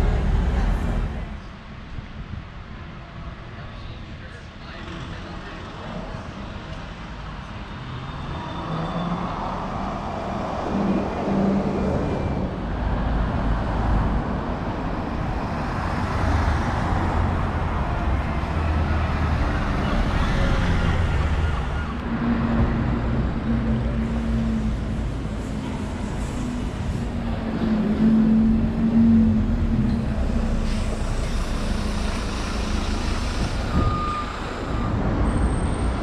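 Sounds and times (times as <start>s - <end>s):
bus driving past: 4.7s - 36.0s.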